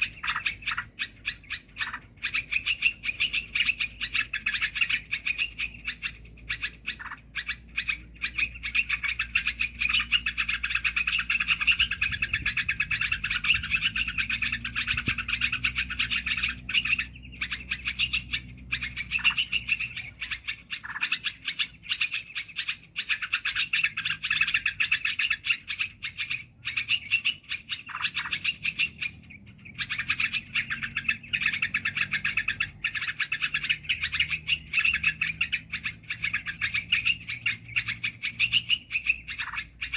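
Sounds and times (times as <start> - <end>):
rapid small bird calls: 0.0 - 39.9.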